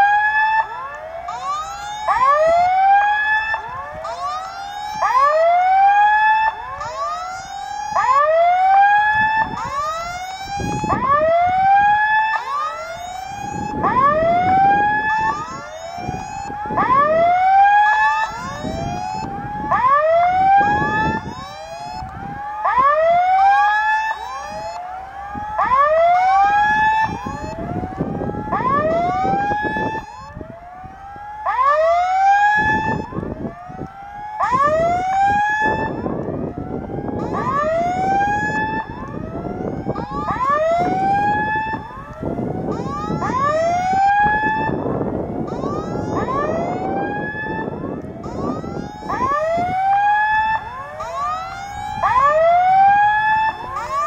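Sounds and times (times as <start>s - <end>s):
level crossing warning tone: 0.0s - 54.0s.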